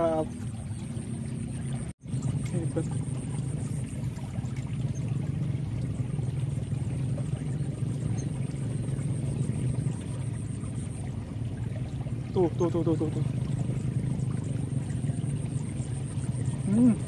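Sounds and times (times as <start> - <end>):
floodwater rushing along channel: 0.0 - 17.0.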